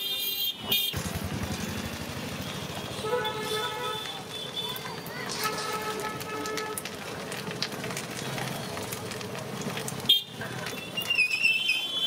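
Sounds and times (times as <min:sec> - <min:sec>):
busy street noise: 0:00.0 - 0:12.0.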